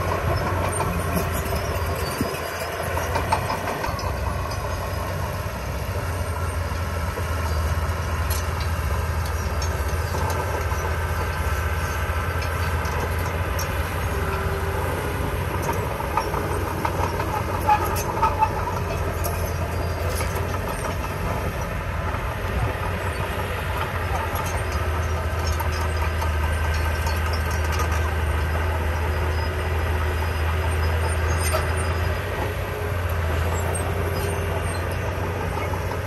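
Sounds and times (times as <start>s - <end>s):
diesel machinery engine drone: 0.0s - 36.0s.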